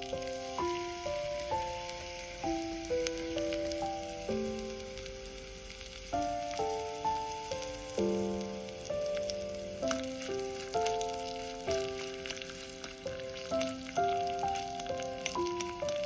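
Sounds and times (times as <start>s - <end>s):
background music of held notes: 0.0s - 16.0s
oil sizzling in a wok: 0.0s - 16.0s.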